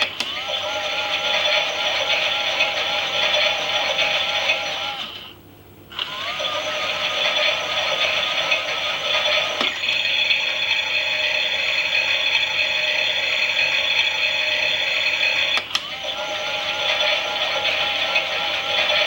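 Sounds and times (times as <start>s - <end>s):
toy washing machine motor whirring: 0.0s - 5.3s, 5.9s - 19.0s.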